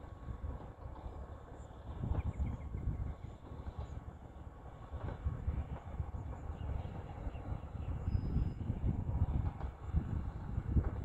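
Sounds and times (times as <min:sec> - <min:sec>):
distant train rumble: 0:00.0 - 0:11.0
wind buffeting microphone: 0:00.0 - 0:11.0.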